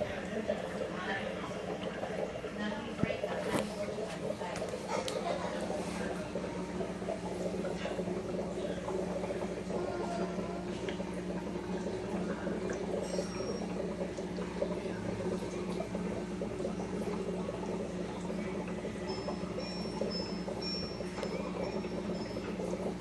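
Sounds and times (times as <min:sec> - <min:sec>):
aquarium water bubbling: 0:00.0 - 0:23.0.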